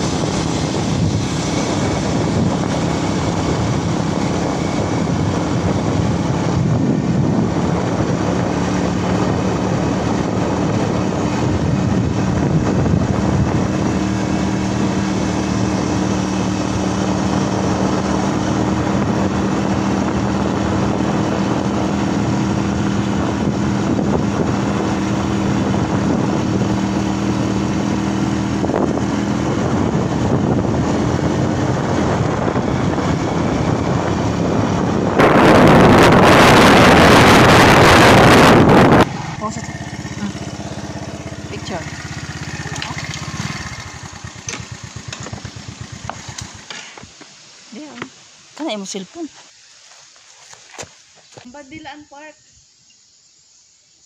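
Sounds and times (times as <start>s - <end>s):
vehicle engine cruising: 0.0s - 48.1s
wind on microphone: 0.0s - 48.8s.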